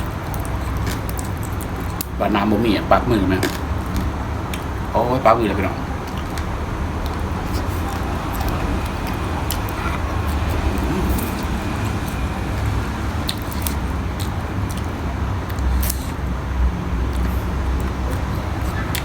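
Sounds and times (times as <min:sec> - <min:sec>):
chewing: 0:00.0 - 0:02.2, 0:03.3 - 0:04.9, 0:05.5 - 0:19.0.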